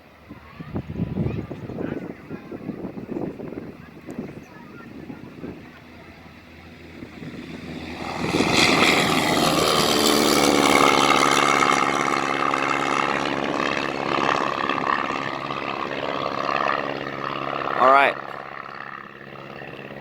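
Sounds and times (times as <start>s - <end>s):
propeller airplane taking off: 0.0s - 20.0s.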